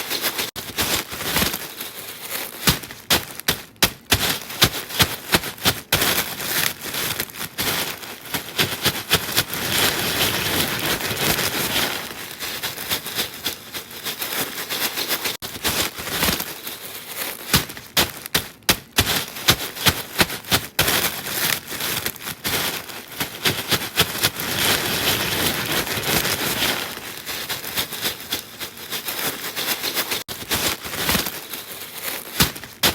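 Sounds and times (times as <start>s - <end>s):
crisp crackling and clicks: 0.0s - 32.9s
rustling crackle: 0.0s - 32.9s.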